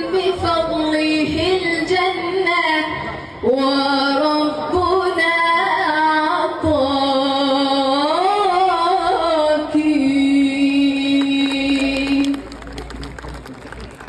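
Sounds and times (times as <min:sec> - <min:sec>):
woman singing devotional chant: 0:00.0 - 0:12.4.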